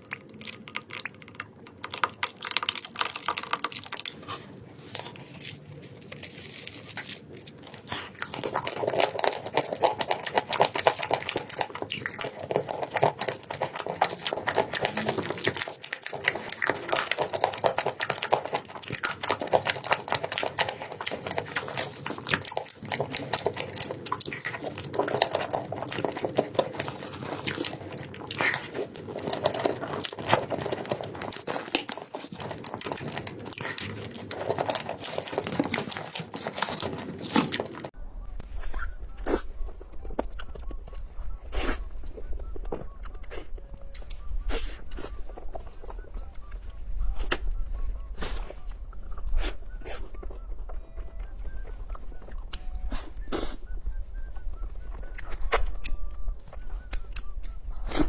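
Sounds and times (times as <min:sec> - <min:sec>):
person chewing and crunching: 0:00.0 - 0:38.0, 0:38.6 - 0:58.0.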